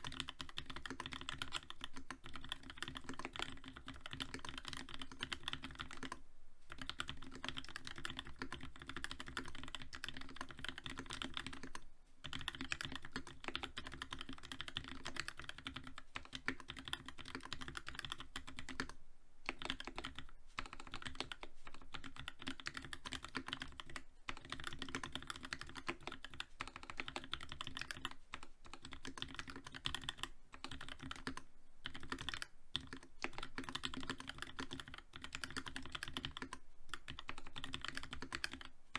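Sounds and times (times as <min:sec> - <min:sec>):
fast mechanical keyboard typing: 0:00.0 - 0:38.7.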